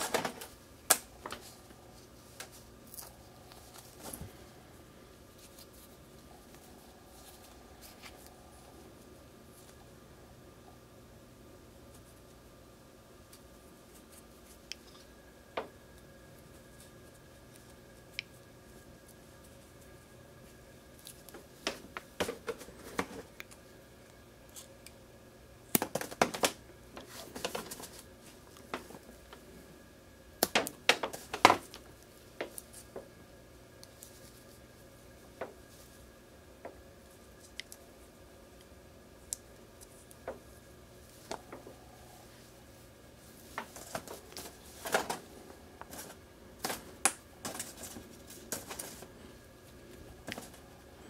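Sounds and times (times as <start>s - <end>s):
crackly scratching and rustling: 0.0s - 10.0s, 11.6s - 12.5s, 13.2s - 25.1s, 25.7s - 29.6s, 30.4s - 51.0s
faint steady hum: 0.0s - 51.0s.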